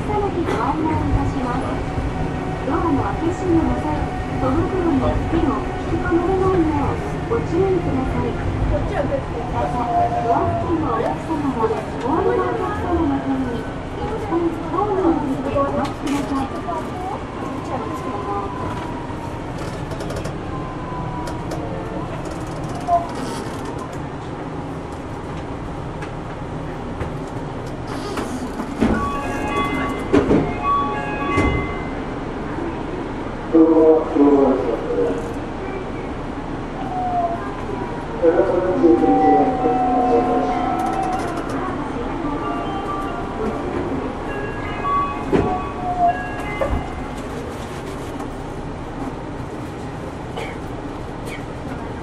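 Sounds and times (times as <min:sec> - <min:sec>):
monorail car rumbling: 0:00.0 - 0:52.0.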